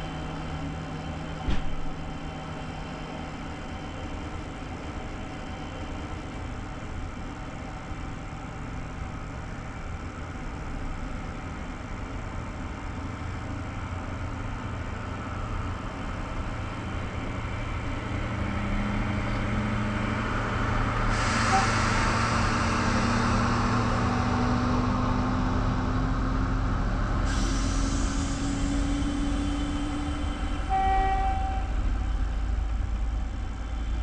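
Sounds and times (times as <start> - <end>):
train coach rumbling on track: 0.0 - 34.0.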